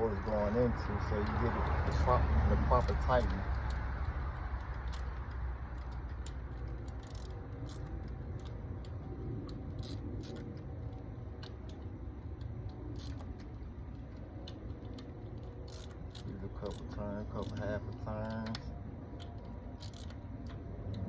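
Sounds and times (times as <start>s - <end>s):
low background rumble: 0.0s - 21.0s
hand ratchet clicking: 1.2s - 2.2s, 2.8s - 18.6s, 19.2s - 21.0s.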